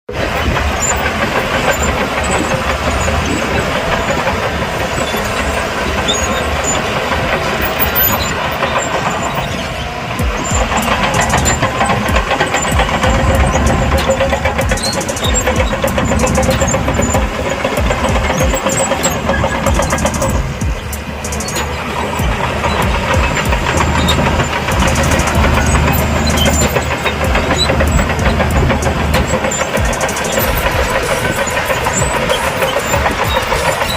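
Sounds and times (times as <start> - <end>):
bulldozer diesel engine running: 0.0 - 33.9
steady whine: 0.1 - 33.9.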